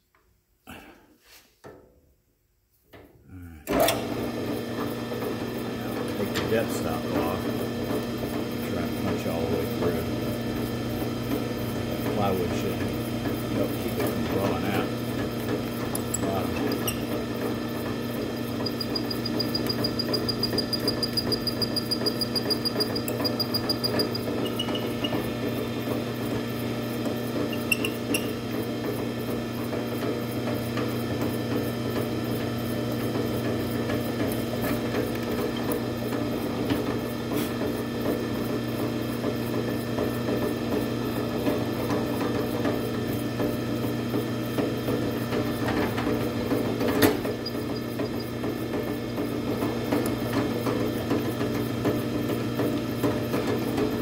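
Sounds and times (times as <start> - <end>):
drill press running: 3.7 - 54.0.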